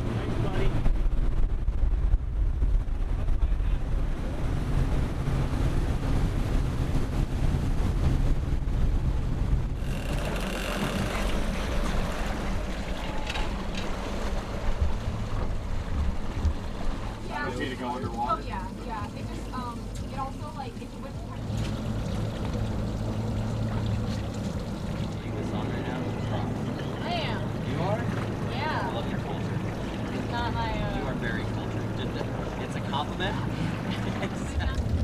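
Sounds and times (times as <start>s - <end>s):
boat engines rumbling: 0.0s - 1.8s, 2.6s - 35.0s
wind buffeting microphone: 0.0s - 35.0s.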